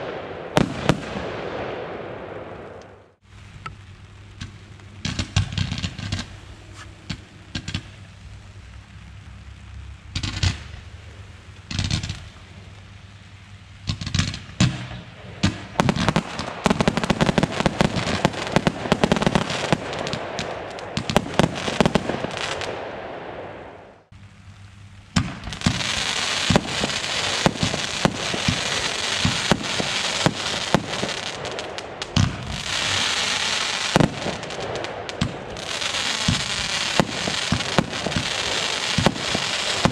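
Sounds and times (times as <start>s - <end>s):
fireworks bangs: 0.0s - 8.8s, 10.1s - 12.8s, 13.8s - 24.1s, 25.1s - 39.9s
rapid fireworks pops and crackle: 0.0s - 39.9s.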